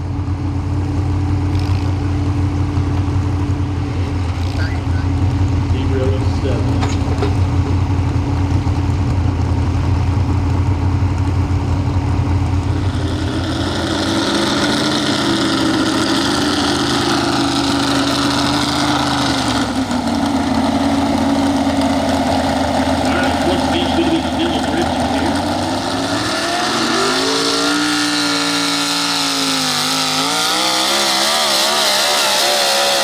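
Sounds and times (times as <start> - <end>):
truck engine running loud: 0.0 - 33.0.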